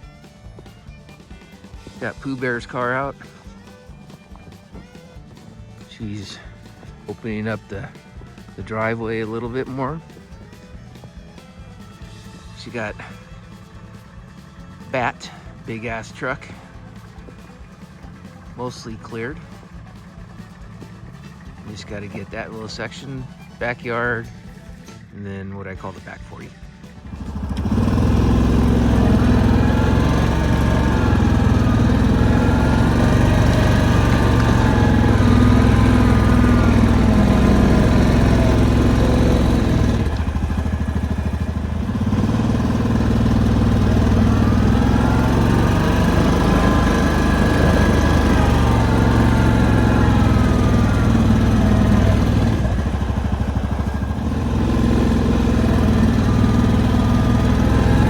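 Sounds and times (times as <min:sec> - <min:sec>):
snow plow engine running: 0:00.0 - 0:58.0.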